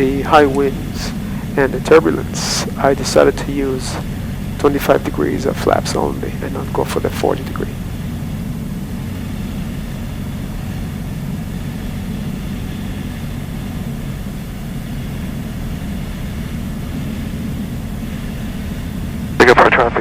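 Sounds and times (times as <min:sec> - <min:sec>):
airflow hiss: 0:00.0 - 0:19.4
airplane engine droning: 0:00.0 - 0:20.0.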